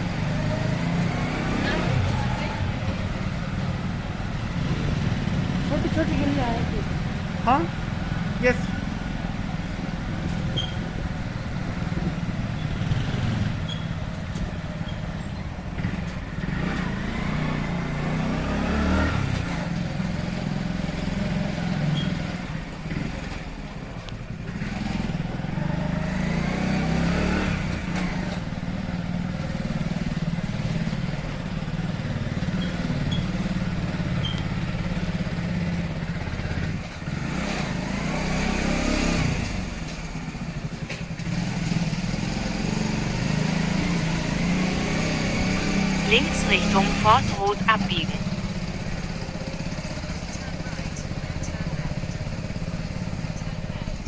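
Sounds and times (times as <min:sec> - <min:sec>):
motorcycle engine running: 0:00.0 - 0:18.6, 0:27.7 - 0:54.0.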